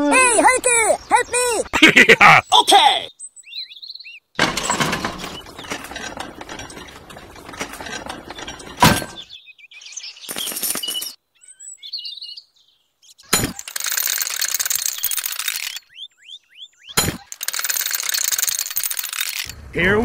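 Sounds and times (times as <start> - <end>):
birds chirping: 0.0 - 19.6.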